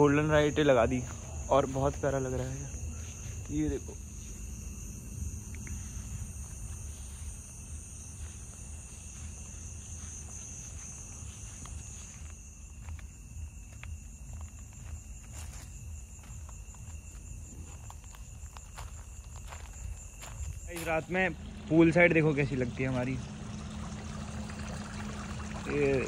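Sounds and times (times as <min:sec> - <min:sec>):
soft footsteps on grass and gravel: 0:00.0 - 0:21.9
crickets and insects chirping: 0:00.0 - 0:26.0.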